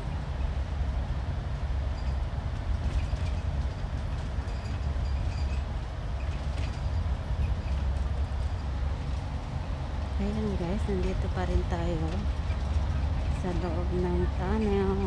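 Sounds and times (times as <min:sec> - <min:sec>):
bus engine and tyres rumbling: 0:00.0 - 0:15.0.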